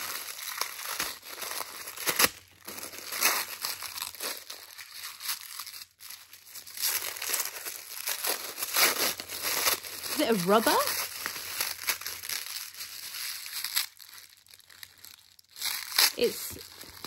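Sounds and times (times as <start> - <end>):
wrapping paper crinkling and tearing: 0.0 - 17.0.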